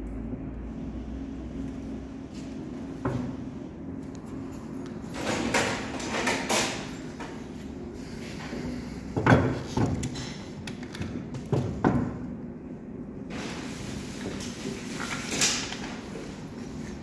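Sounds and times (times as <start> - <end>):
low workshop hum: 0.0 - 17.0.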